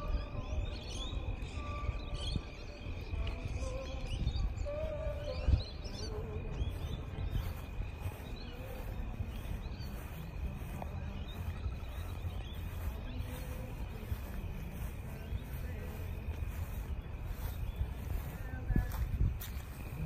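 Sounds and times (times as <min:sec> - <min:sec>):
small birds chirping: 0:00.0 - 0:20.0
wind rumble: 0:00.0 - 0:20.0.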